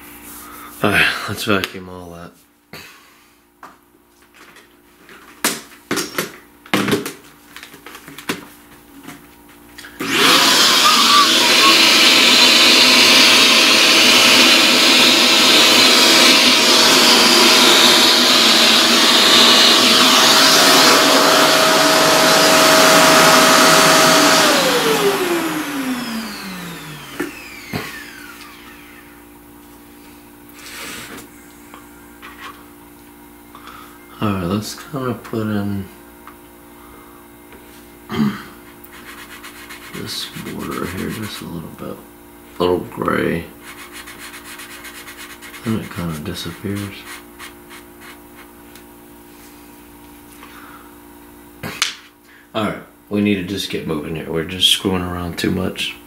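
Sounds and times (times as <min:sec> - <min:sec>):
vacuum cleaner running: 0:09.8 - 0:56.0.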